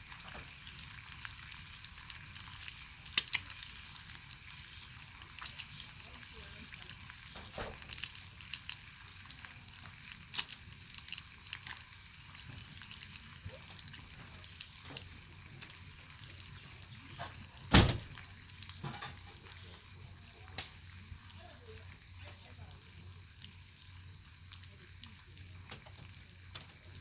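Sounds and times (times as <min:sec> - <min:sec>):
bacon sizzling in a pan: 0:00.0 - 0:27.0.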